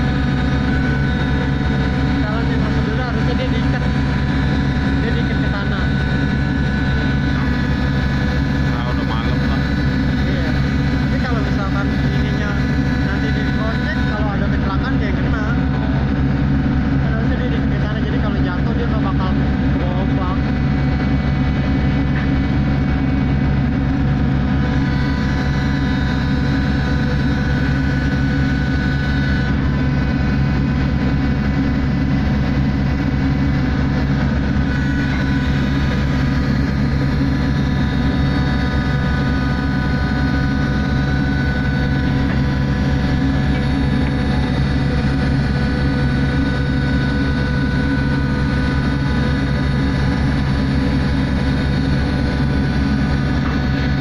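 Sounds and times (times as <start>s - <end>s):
machinery whining tones: 0.0s - 54.0s
ship engines droning: 0.0s - 54.0s.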